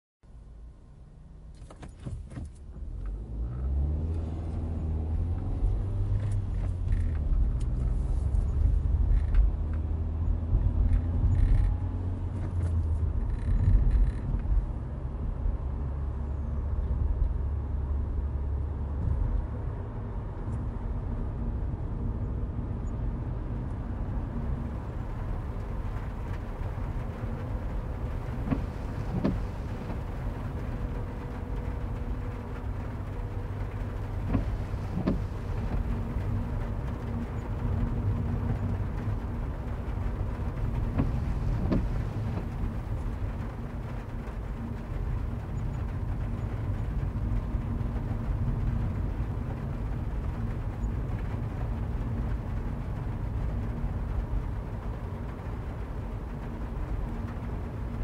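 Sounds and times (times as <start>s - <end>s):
car engine rumbling: 0.2s - 58.0s
rain hitting car window: 1.6s - 16.1s, 22.8s - 58.0s.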